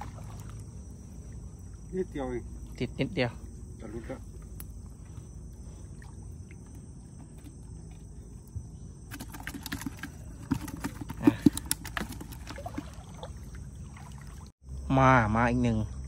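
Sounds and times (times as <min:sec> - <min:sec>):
water splashing and dripping: 0:00.0 - 0:08.5, 0:09.1 - 0:14.6.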